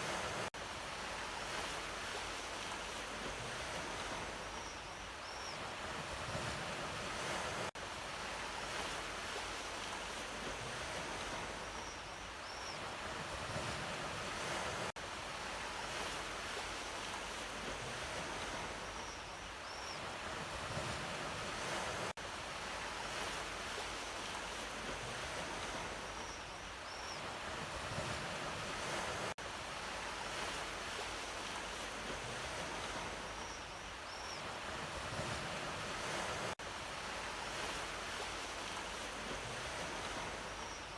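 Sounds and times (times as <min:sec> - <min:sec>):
ocean waves washing on shore: 0:00.0 - 0:40.9.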